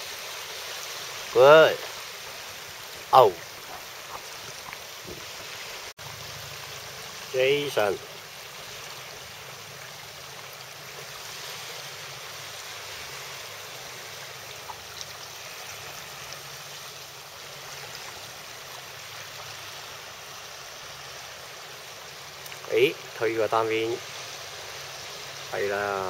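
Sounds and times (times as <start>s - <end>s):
small waves washing on shore: 0.0s - 26.0s.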